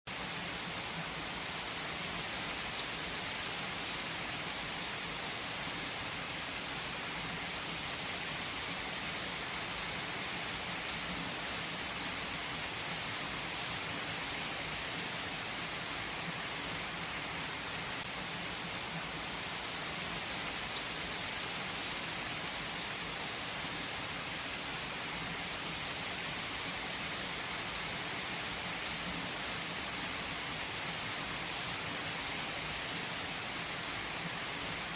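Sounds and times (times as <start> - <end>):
heavy rain on leaves: 0.1 - 34.9.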